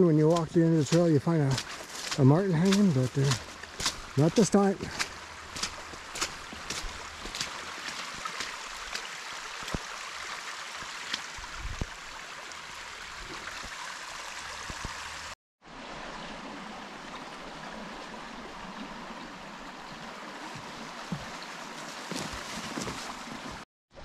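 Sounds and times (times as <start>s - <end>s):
stream rushing: 0.0s - 23.6s.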